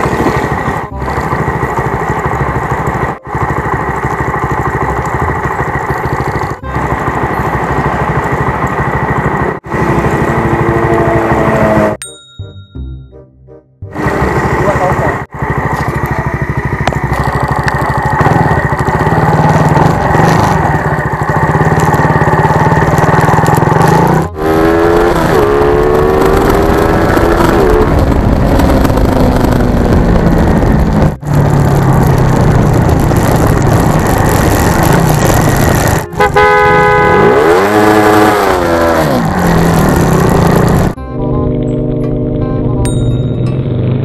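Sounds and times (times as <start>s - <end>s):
motorcycle engine accelerating: 0.0s - 12.0s, 13.6s - 44.0s.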